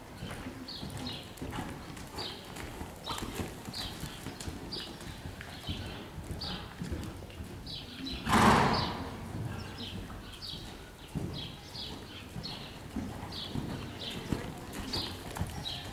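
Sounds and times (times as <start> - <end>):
horse hoofbeats in sand: 0.0 - 15.9.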